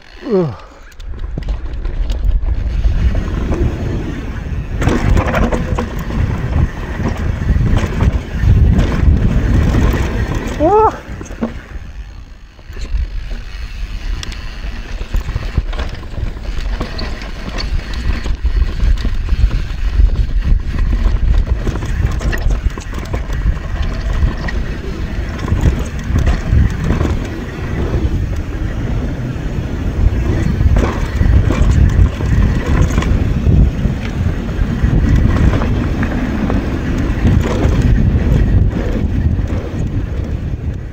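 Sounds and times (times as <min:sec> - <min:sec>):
tyres rumbling over dirt: 0:00.0 - 0:40.9
wind on microphone: 0:00.3 - 0:40.9
bike clattering over bumps: 0:00.9 - 0:40.9.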